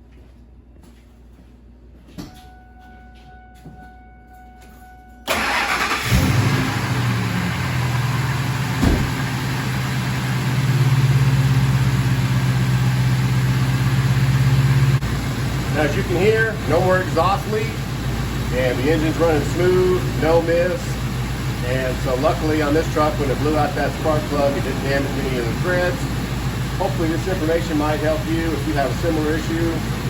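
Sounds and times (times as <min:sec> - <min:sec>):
truck engine cranking and idling: 0:05.2 - 0:30.0.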